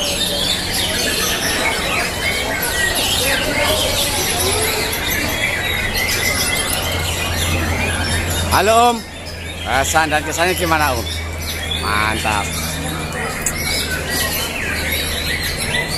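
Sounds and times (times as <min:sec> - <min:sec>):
songbirds singing chorus: 0:00.0 - 0:15.9
steady low hum: 0:00.3 - 0:15.9.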